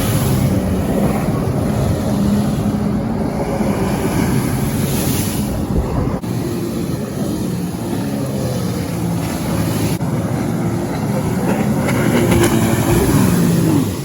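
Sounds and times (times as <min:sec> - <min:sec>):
jet ski engine running: 0:00.0 - 0:14.0
water noise: 0:00.0 - 0:14.0
wind noise: 0:00.0 - 0:14.0.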